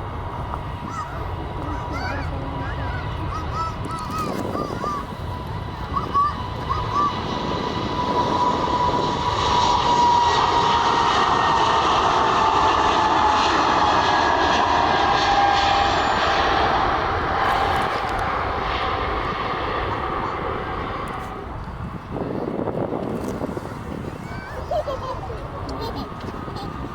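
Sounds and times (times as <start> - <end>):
airliner engines passing: 0.0 - 26.9.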